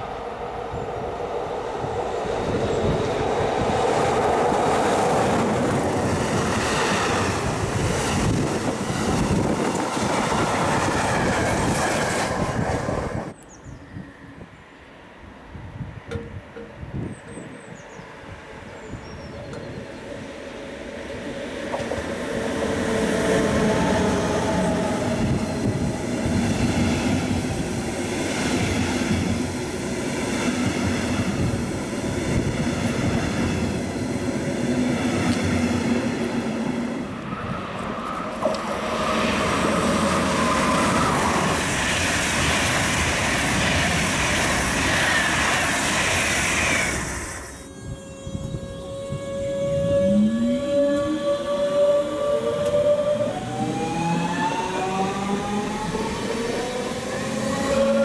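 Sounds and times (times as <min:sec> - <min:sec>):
passing train higher whine: 0:00.0 - 0:58.0
train wheels on rails: 0:01.6 - 0:13.4, 0:19.4 - 0:58.0.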